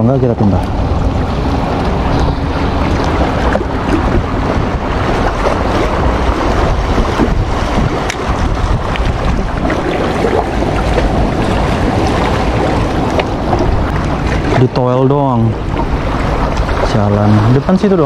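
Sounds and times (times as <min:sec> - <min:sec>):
wind rumbling on microphone: 0:00.0 - 0:18.0
water washing against rocks: 0:00.7 - 0:18.0.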